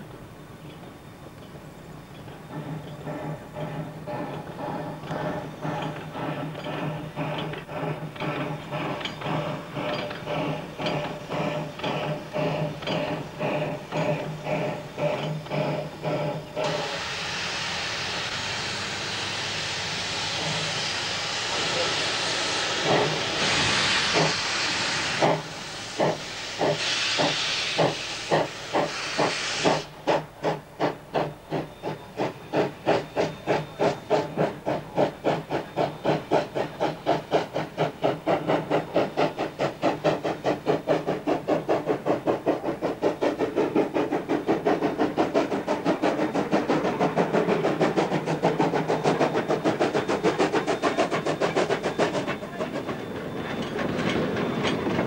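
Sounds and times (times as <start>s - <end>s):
loud steam hiss: 0.0s - 55.0s
steam locomotive exhaust chuffs: 0.0s - 55.0s.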